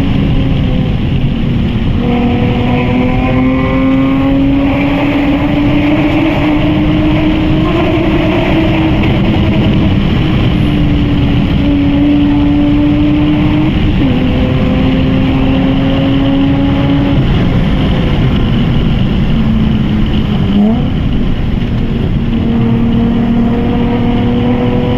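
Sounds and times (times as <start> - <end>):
car engine exhaust drone: 0.0 - 24.9
road rumble: 0.0 - 24.9.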